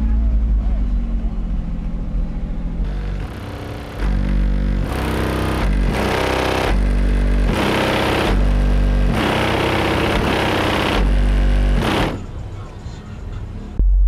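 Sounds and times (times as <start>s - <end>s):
deep heavy bass: 0.0s - 12.4s, 13.7s - 14.0s
distorted higher sounds: 0.0s - 12.5s.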